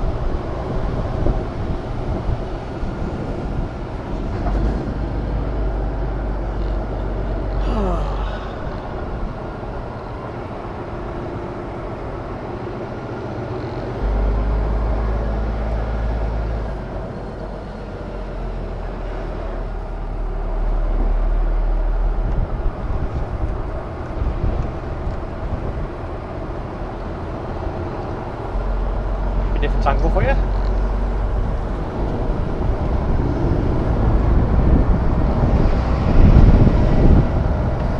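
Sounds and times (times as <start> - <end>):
diesel truck engine rumble: 0.0 - 37.9.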